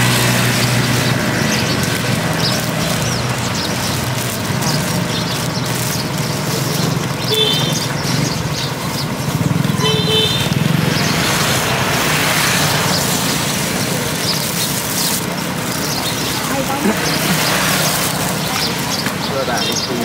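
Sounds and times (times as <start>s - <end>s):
busy street ambience: 0.0s - 20.0s
vehicle engine running: 0.0s - 20.0s.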